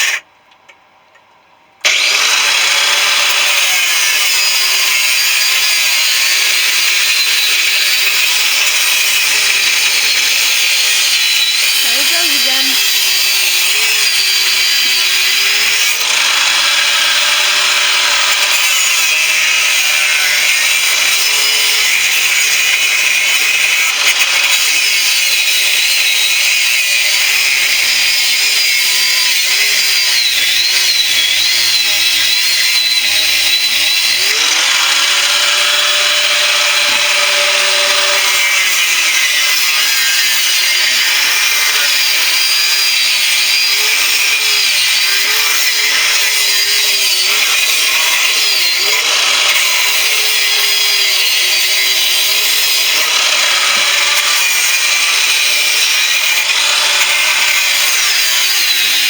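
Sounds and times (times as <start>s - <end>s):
angle grinder cutting metal: 0.0s - 0.2s, 1.8s - 59.0s.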